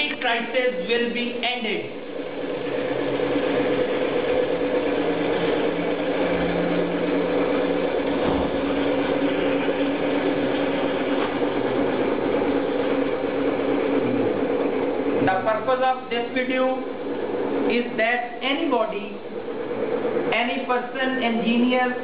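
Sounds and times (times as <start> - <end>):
motor humming and whirring: 0.0 - 22.0.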